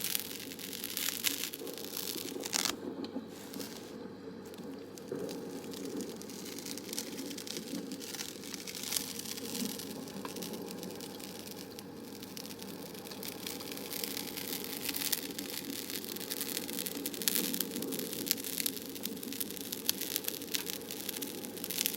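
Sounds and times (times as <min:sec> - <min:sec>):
fine dense crackling: 0:00.0 - 0:21.9.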